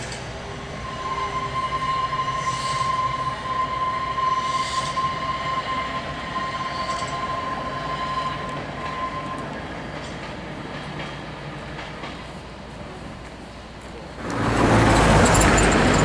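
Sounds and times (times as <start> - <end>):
tram running past: 0.0 - 16.0.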